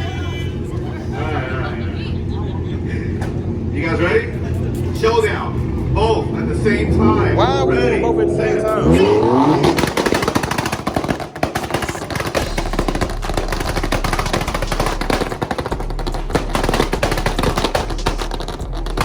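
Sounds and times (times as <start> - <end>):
car engines revving: 0.0 - 19.0
rapid exhaust popping: 0.0 - 19.0.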